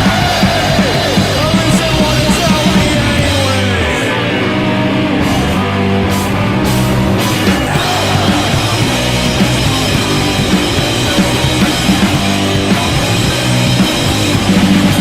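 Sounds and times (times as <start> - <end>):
punk rock band playing: 0.0 - 15.0.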